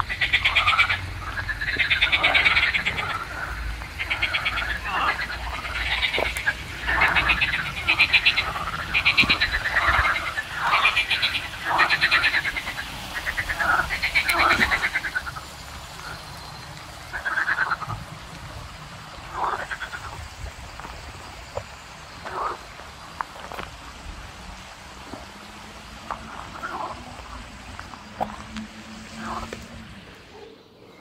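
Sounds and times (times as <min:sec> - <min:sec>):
frogs croaking: 0:00.0 - 0:31.0.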